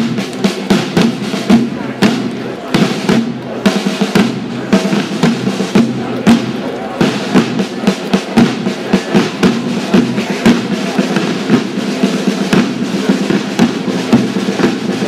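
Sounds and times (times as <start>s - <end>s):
snare and bass drum march: 0.0s - 15.0s.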